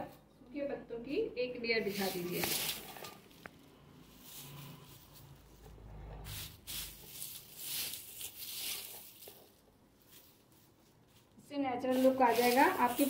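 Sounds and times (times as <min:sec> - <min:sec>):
dry leaves rustling: 0:01.8 - 0:03.4, 0:04.0 - 0:13.0.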